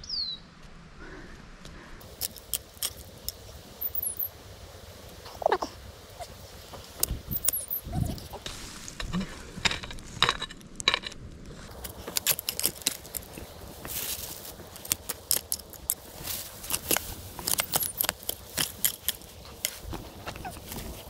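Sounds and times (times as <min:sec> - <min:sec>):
digging in stony soil: 0:02.0 - 0:04.4, 0:05.4 - 0:21.0.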